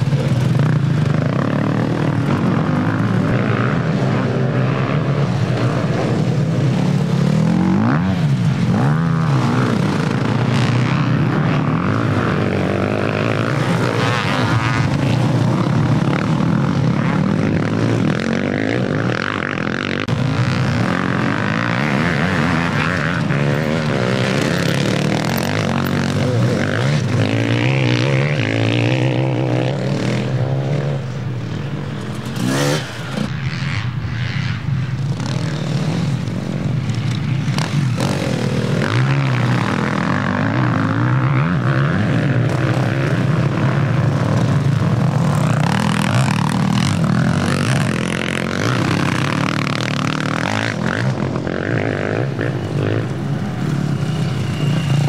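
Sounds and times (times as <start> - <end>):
off-road engines revving: 0.0 - 55.0.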